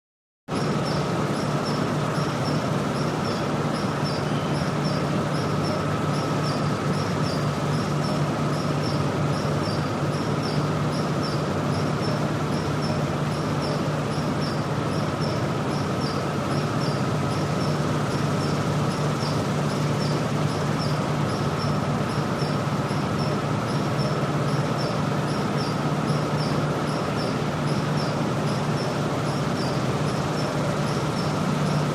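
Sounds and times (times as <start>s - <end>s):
industrial machinery hum: 0.5s - 31.9s
high-pitched chirping: 0.6s - 31.8s.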